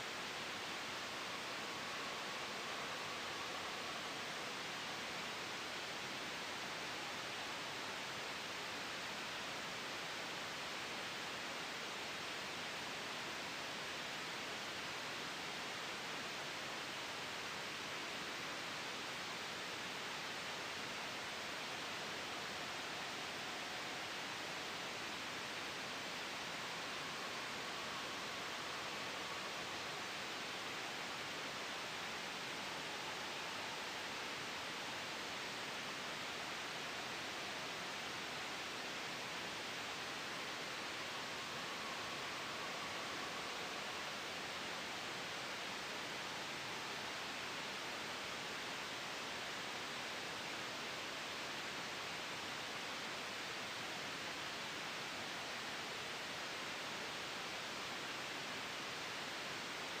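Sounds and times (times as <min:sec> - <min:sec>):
gentle wind: 0:00.0 - 1:00.0
white noise hiss: 0:00.0 - 1:00.0.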